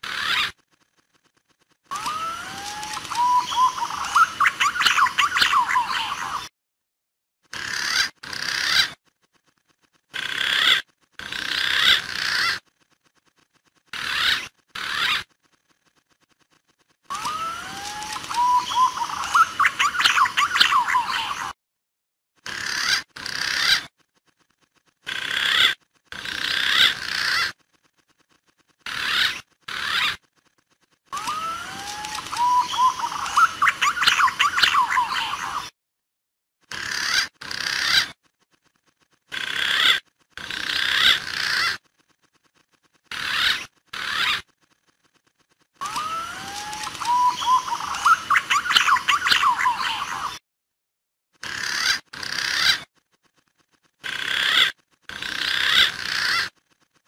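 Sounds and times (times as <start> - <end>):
pigeon calls: 0.0 - 0.9, 1.9 - 6.5, 7.5 - 9.0, 10.0 - 12.7, 13.8 - 21.6, 22.4 - 30.3, 31.1 - 35.7, 36.7 - 38.6, 39.3 - 41.9, 43.0 - 44.7, 45.8 - 50.4, 51.4 - 56.6.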